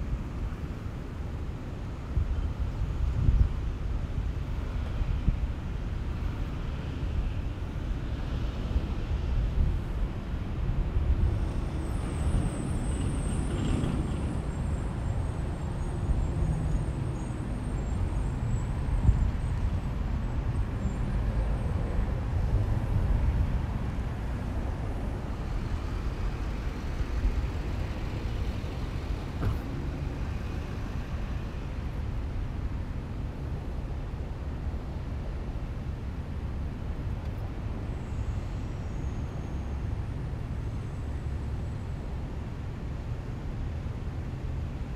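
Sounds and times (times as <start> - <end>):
road traffic rumble: 0.0 - 44.9.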